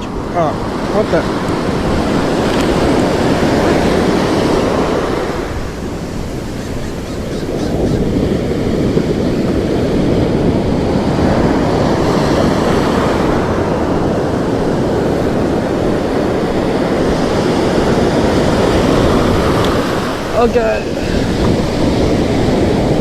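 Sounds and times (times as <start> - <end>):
ocean surf breaking: 0.0 - 23.0.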